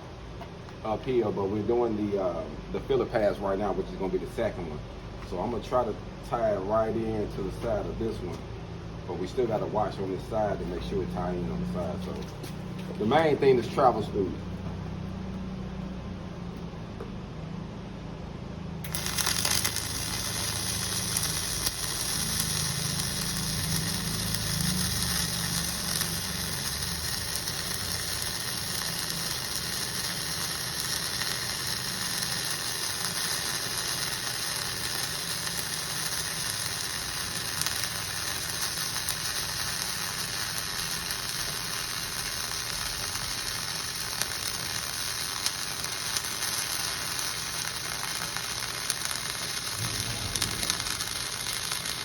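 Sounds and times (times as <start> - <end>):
welding arc crackling and sizzling: 0.0 - 8.5, 9.1 - 16.7, 18.8 - 52.0.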